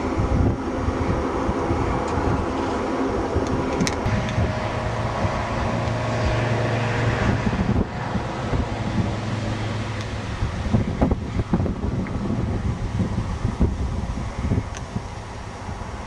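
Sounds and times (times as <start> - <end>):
airliner engines taking off: 0.0 - 16.0
wind on microphone: 0.0 - 16.0.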